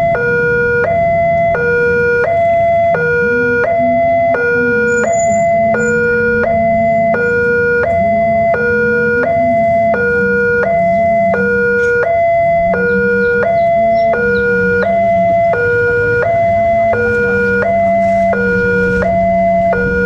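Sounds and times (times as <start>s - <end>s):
level crossing two-tone alarm: 0.0s - 20.0s.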